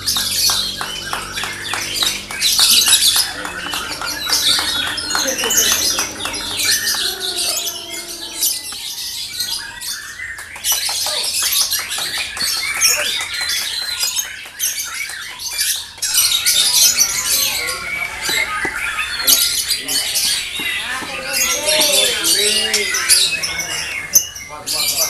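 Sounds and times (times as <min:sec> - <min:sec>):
lovebirds chattering trills: 0:00.0 - 0:25.0.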